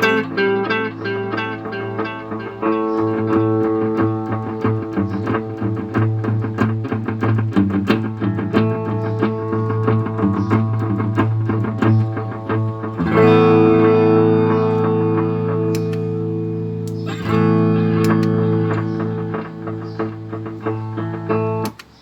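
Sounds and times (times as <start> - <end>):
electric guitar with delay: 0.0 - 21.8.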